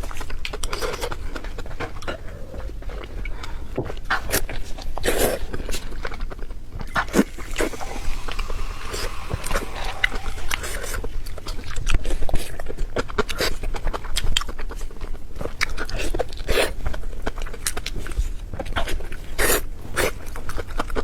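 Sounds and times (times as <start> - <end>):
wet chewing and lip-smacking: 0.0 - 7.8, 11.6 - 21.0.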